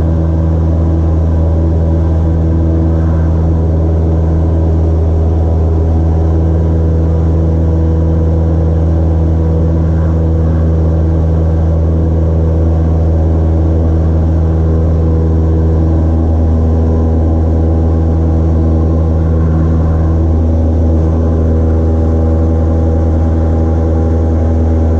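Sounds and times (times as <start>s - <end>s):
propeller aircraft engine droning: 0.0s - 24.9s.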